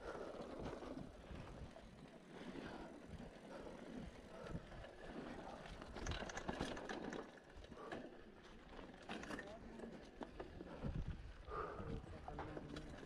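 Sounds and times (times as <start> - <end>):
bike rattling: 0.0 - 11.4, 12.4 - 13.0.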